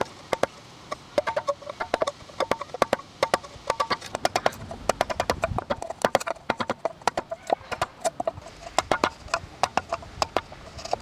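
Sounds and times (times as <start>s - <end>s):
rapid sharp knocks on wood: 0.0s - 0.6s, 1.2s - 10.5s.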